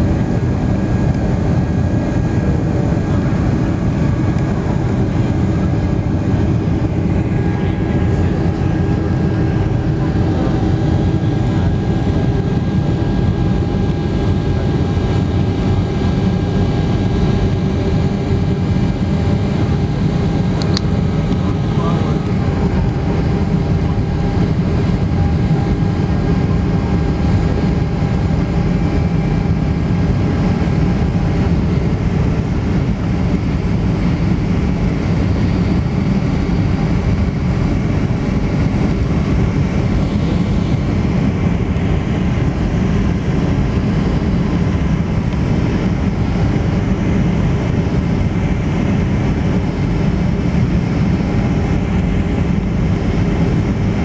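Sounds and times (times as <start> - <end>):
jet engines and rushing air: 0.0 - 54.0.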